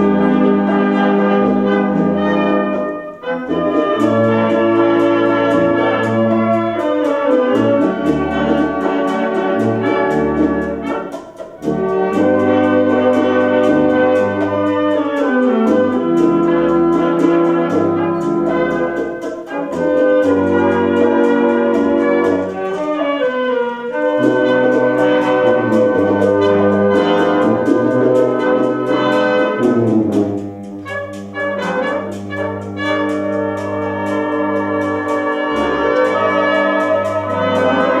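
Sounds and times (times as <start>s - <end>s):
brass band playing: 0.0s - 38.0s
percussion beat: 0.0s - 38.0s.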